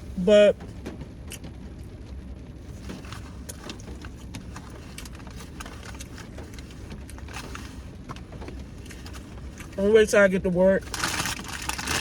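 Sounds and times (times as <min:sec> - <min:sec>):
vehicle cabin rumble: 0:00.0 - 0:12.0
small clicks and crackles: 0:00.6 - 0:09.8, 0:10.8 - 0:12.0.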